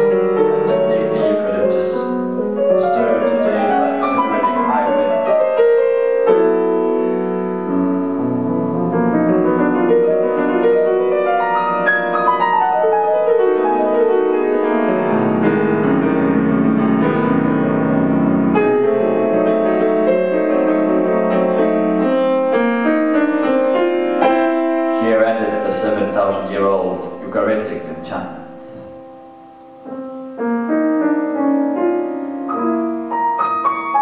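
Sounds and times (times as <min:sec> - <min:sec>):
grand piano playing: 0:00.0 - 0:34.0.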